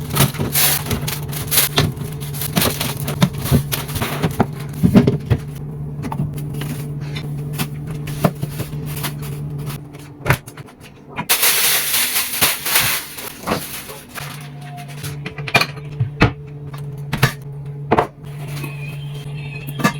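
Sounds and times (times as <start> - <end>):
objects knocking and scraping: 0.0 - 19.1
steady low hum: 0.0 - 19.9.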